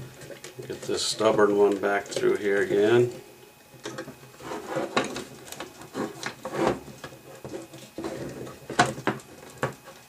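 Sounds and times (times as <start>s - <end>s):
plastic cover rubbing and scraping: 0.0s - 3.2s, 4.1s - 10.0s.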